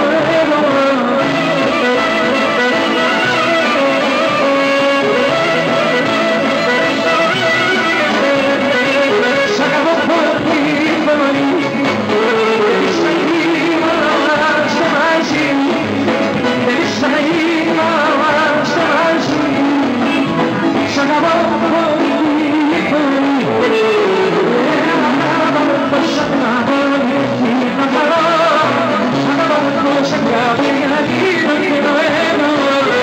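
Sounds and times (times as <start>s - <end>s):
amplified band playing dance music: 0.0s - 33.0s
man singing: 0.0s - 33.0s.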